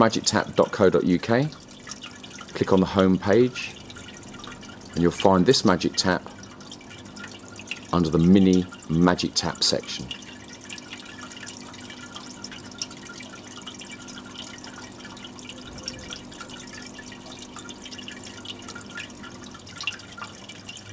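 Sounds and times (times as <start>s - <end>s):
water drips: 0.0s - 20.9s
water trickling into a metal bucket: 0.0s - 20.9s.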